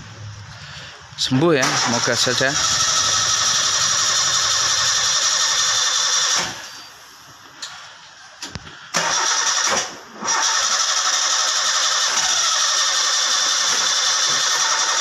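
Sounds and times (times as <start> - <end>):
starter motor cranking engine: 1.6 - 6.9, 7.6 - 15.0.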